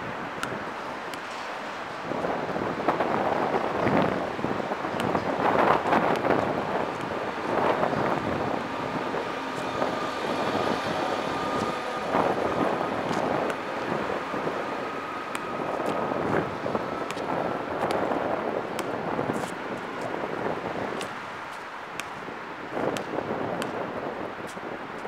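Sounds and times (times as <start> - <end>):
traffic: 0.0 - 25.0
wind buffeting microphone: 1.9 - 21.5, 22.1 - 25.0.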